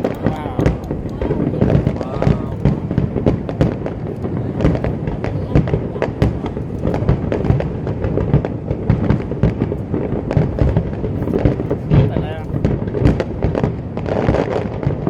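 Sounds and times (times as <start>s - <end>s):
low rumble: 0.0s - 13.5s
fireworks bangs: 0.0s - 15.0s.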